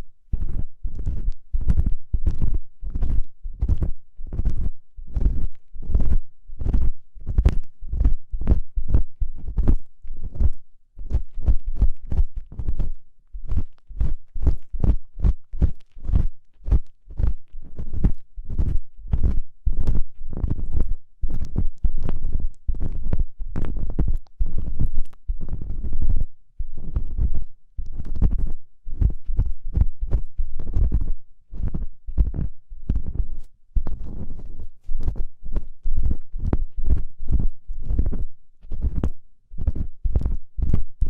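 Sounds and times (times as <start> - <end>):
ear pick scraping microphone: 0.0 - 41.0.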